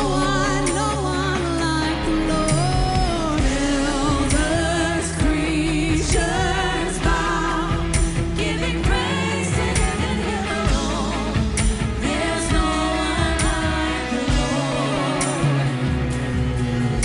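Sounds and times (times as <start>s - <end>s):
worship band playing: 0.0s - 17.0s.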